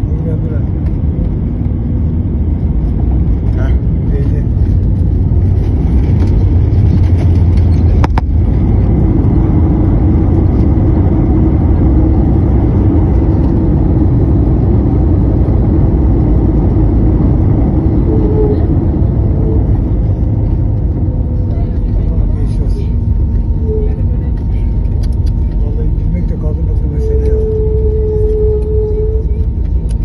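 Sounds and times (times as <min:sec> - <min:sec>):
jet cabin rumble: 0:00.0 - 0:30.0.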